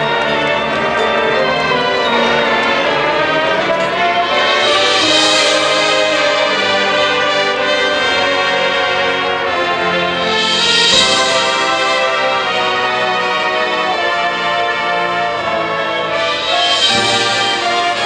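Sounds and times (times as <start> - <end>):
brass section holding chords: 0.0 - 18.0
marching percussion: 0.0 - 18.0.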